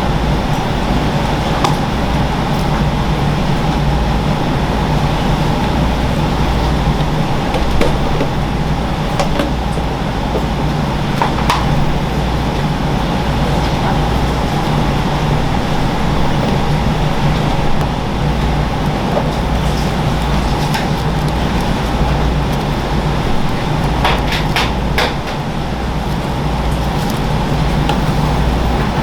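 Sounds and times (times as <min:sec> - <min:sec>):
mechanical hum and rumble: 0:00.0 - 0:29.0.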